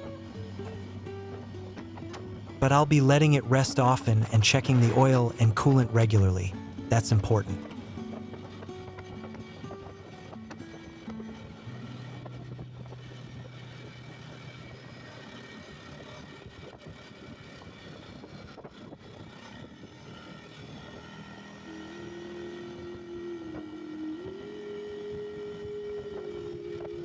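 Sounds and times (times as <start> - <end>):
atv engine running: 0.0 - 27.0
road and wind noise: 0.0 - 27.0.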